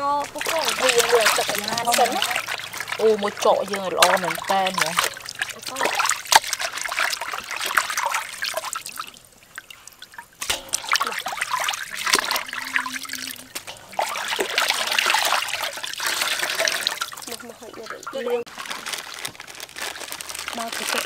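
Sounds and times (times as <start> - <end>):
water sloshing in a steel basin: 0.0 - 18.8
water dripping: 0.0 - 21.0.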